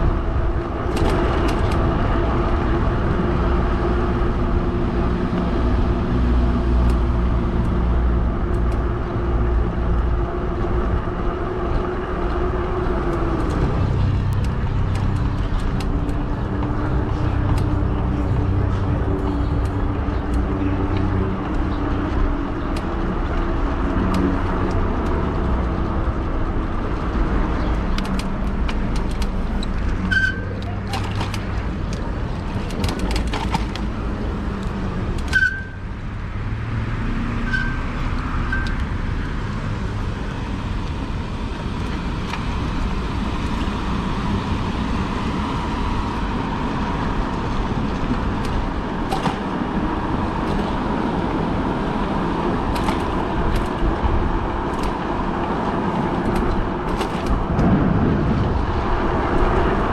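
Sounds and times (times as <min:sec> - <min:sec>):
passing cars rumble: 0:00.0 - 0:59.9.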